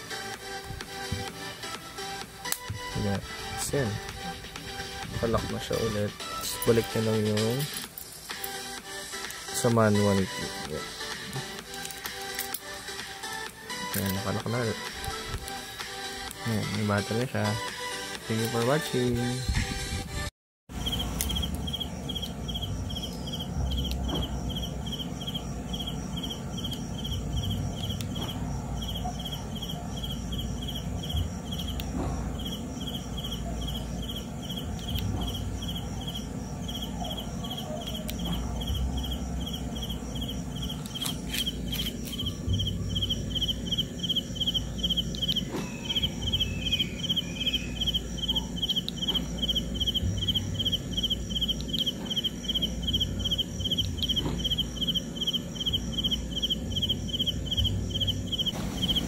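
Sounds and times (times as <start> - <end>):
cricket chirping: 0.0 - 18.7, 20.7 - 59.0.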